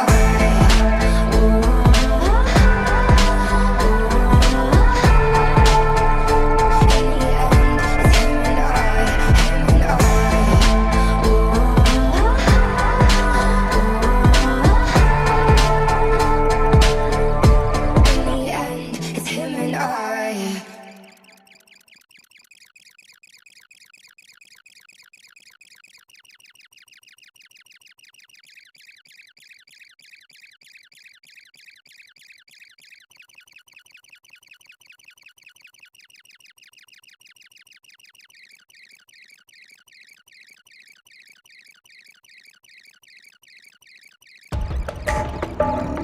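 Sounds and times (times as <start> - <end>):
high-pitched electronic chirping: 0.0 - 46.0.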